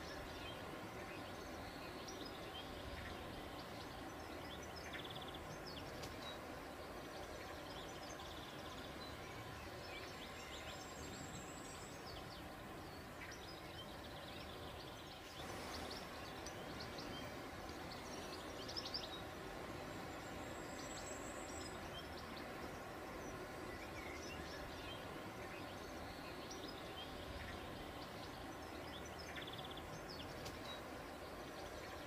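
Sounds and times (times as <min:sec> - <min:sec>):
outdoor background noise: 0:00.0 - 0:32.0
small birds chirping: 0:00.0 - 0:32.0.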